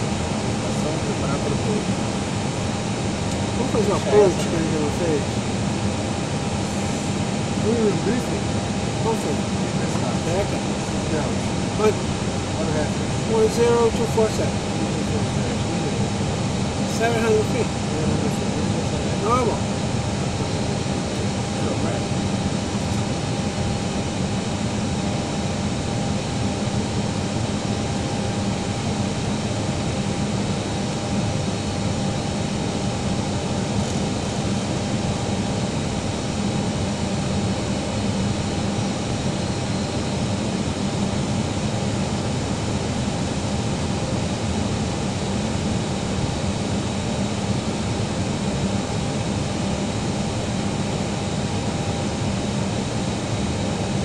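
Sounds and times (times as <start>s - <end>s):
faint high whine: 0.0s - 54.0s
jet engine and airflow noise: 0.0s - 54.0s.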